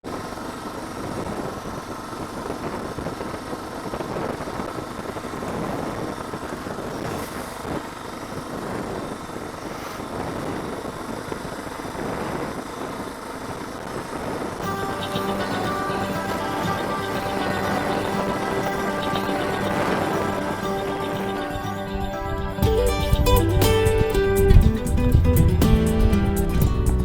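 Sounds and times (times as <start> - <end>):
road noise: 0.0 - 27.0
motorcycle engine: 0.1 - 27.0.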